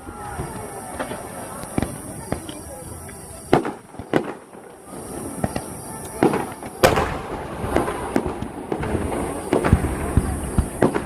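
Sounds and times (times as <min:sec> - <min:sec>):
fireworks bangs echoing: 0:00.0 - 0:11.0.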